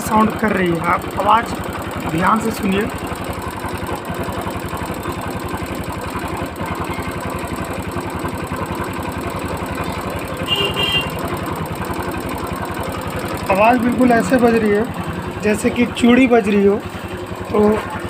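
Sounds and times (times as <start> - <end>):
fast metallic ticking: 0.0 - 18.0
motorcycle engine idling: 0.0 - 18.0.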